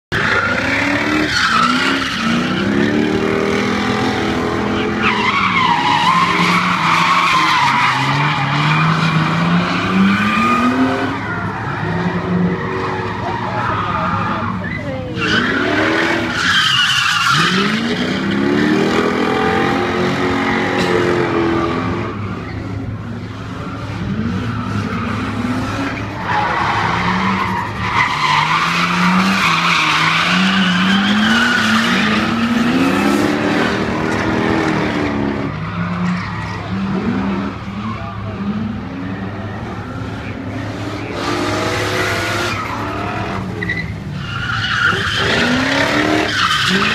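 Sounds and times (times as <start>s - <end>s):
car engines revving: 0.0s - 46.9s
tyres squealing and skidding: 0.1s - 46.9s.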